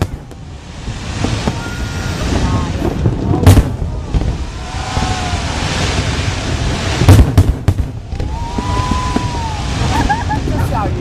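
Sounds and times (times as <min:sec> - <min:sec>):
firework cracks: 0:00.0 - 0:11.0
fireworks crackling hiss: 0:00.0 - 0:11.0
firework bang: 0:01.0 - 0:10.1.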